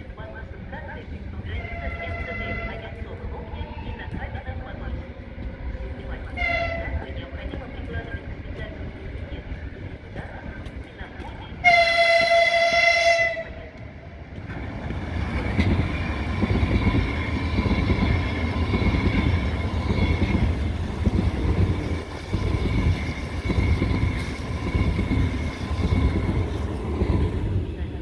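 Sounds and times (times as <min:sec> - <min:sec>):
train rolling rumble: 0:00.0 - 0:28.0.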